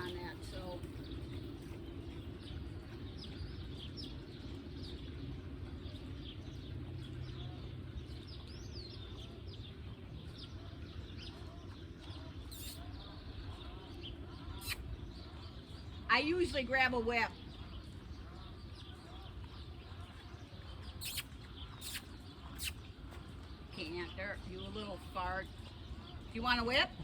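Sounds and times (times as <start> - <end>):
birds chirping: 0.0 - 27.0
steady low rumble: 0.0 - 27.0.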